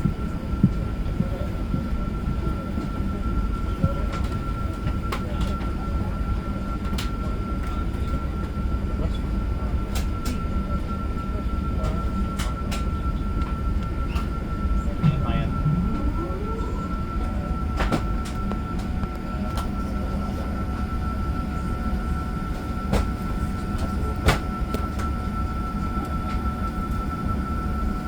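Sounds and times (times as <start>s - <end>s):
airplane cabin low rumble: 0.0s - 28.0s
thin steady whine: 0.0s - 28.0s.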